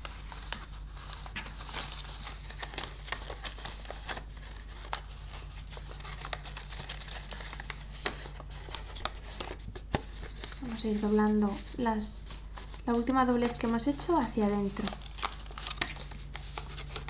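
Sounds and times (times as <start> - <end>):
paper rustling and crinkling: 0.0 - 17.0.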